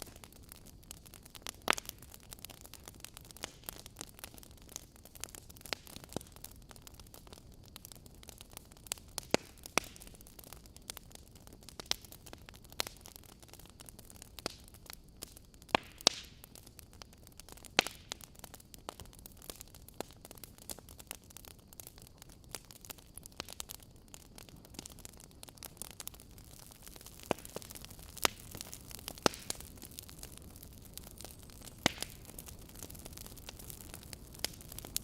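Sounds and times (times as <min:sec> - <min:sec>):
low steady hiss: 0:00.0 - 0:35.0
wood fire crackling and popping: 0:00.0 - 0:35.0.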